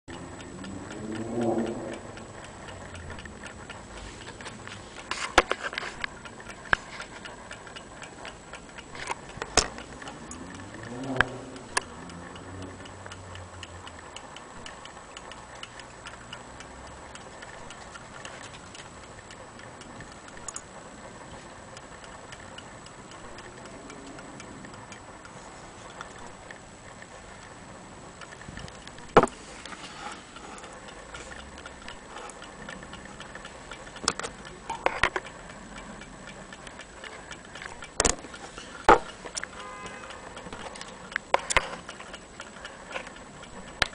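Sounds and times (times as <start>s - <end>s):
clock ticking: 0.1s - 43.9s.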